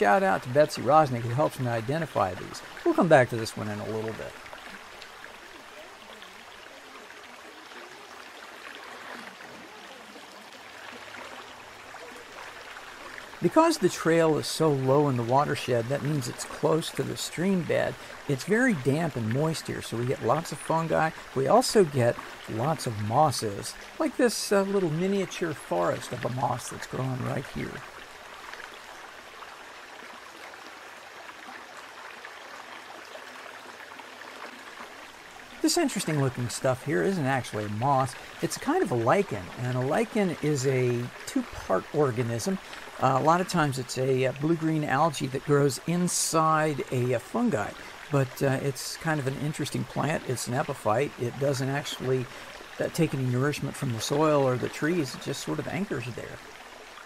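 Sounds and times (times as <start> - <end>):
river rushing over its bed: 0.0 - 57.0
stream water flowing: 0.0 - 57.0.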